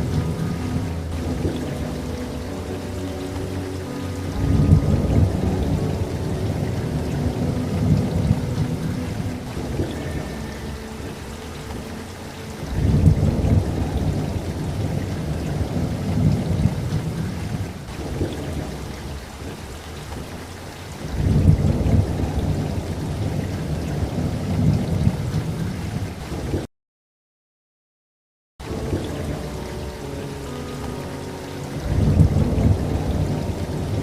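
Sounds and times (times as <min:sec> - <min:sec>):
thunder rumbling: 0:00.0 - 0:26.6, 0:31.7 - 0:34.0
steady rain falling: 0:00.0 - 0:26.7, 0:28.6 - 0:34.0.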